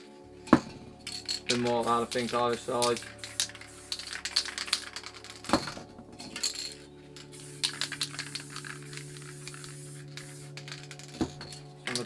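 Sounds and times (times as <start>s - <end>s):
spray paint cans clinking: 0.5s - 12.0s.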